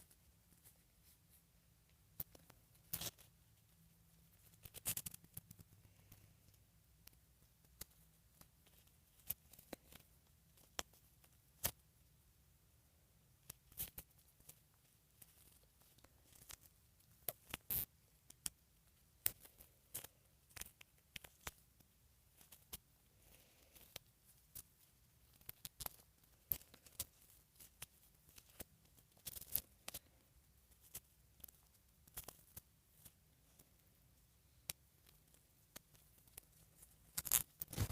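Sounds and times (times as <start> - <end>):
hands handling doll and clothes: 0.0 - 12.3, 13.1 - 37.9.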